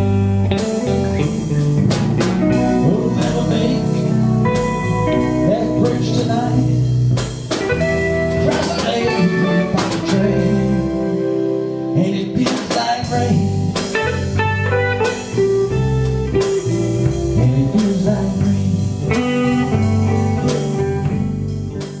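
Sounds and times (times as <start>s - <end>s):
bass line: 0.0s - 22.0s
electric guitar lines: 0.0s - 22.0s
drum hits: 0.5s - 9.2s, 12.4s - 22.0s.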